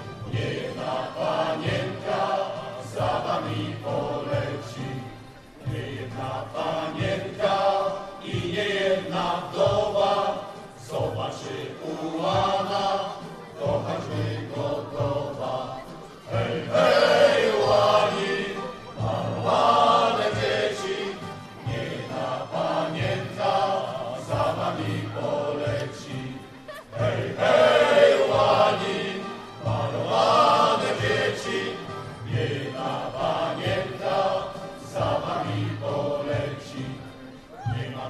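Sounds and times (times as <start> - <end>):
choir singing with accompaniment: 0.0 - 38.0.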